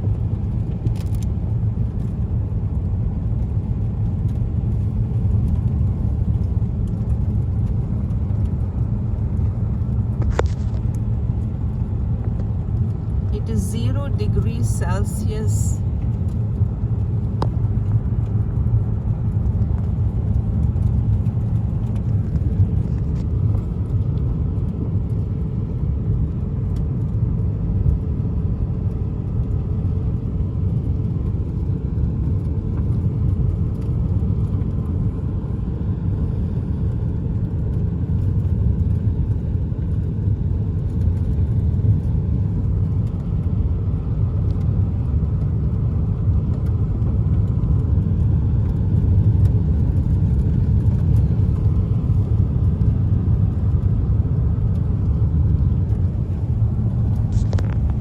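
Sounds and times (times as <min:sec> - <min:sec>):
steady low rumble: 0:00.0 - 0:58.0.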